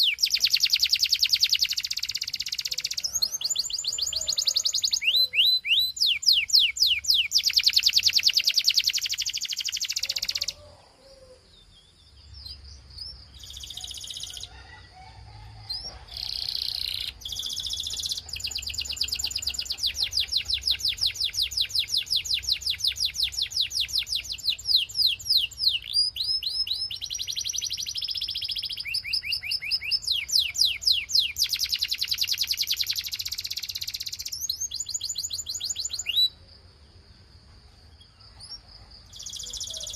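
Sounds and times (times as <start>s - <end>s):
canary singing rolling trills: 0.0s - 37.2s, 37.8s - 39.9s.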